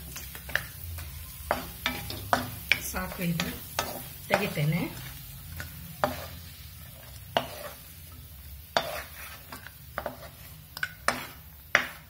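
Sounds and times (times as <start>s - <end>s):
spatula scraping a wok: 0.0s - 12.0s.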